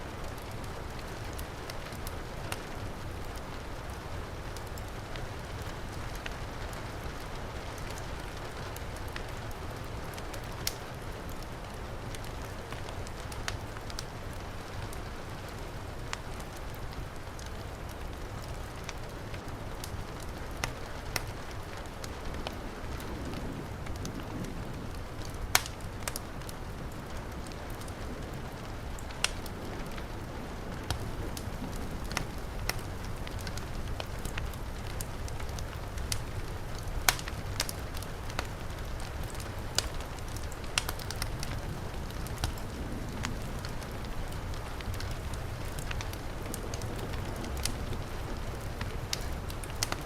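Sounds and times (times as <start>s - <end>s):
wood fire crackling and popping: 0.1s - 50.0s.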